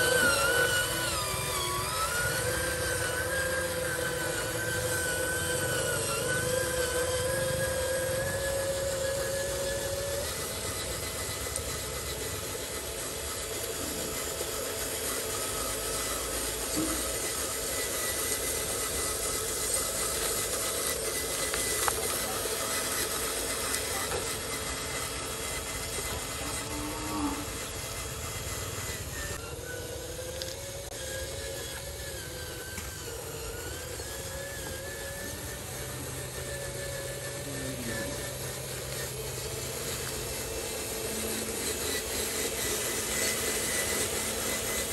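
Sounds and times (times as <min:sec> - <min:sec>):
model truck motor whining: 0:00.0 - 0:44.9
outdoor background noise: 0:00.0 - 0:44.9.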